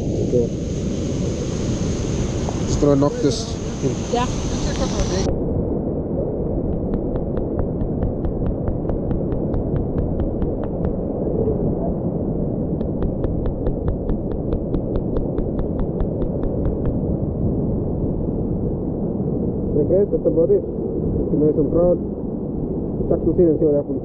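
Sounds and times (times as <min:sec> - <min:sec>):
surf rumbling: 0:00.0 - 0:24.0
wind buffeting microphone: 0:00.0 - 0:24.0.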